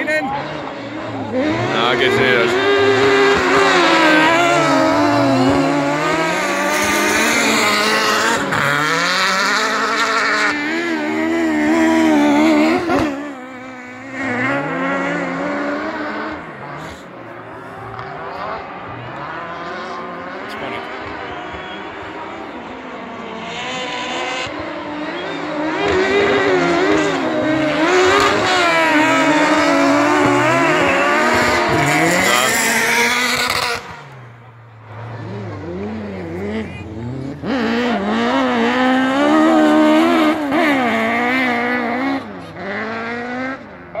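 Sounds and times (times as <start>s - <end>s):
racing buggy engines revving: 0.0s - 44.0s.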